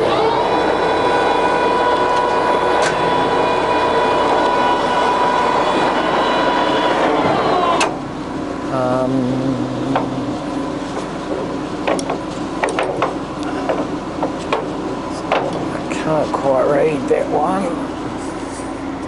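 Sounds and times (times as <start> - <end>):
lathe motor whine: 0.0 - 19.0.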